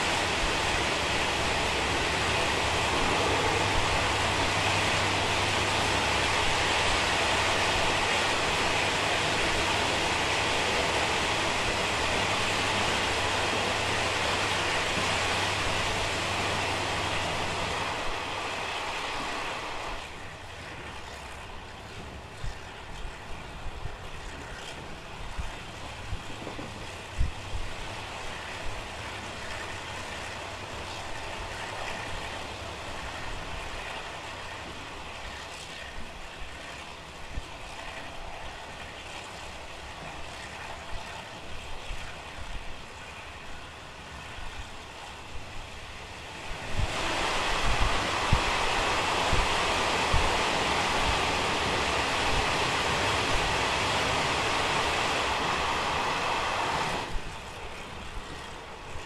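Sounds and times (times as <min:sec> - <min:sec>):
train roaring in a tunnel: 0:00.0 - 0:59.0
train running: 0:00.0 - 0:59.0.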